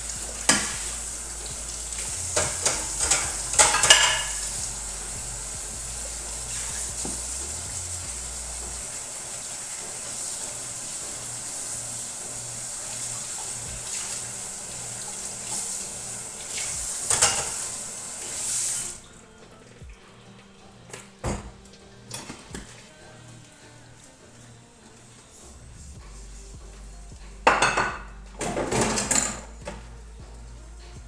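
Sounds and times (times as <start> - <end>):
water running from a tap: 0.0 - 31.0.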